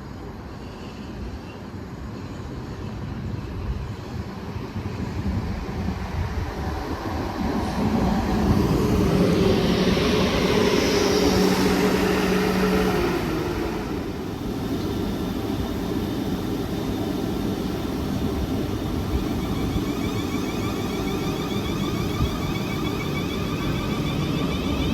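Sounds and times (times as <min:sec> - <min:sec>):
electric train passing: 0:00.0 - 0:24.9.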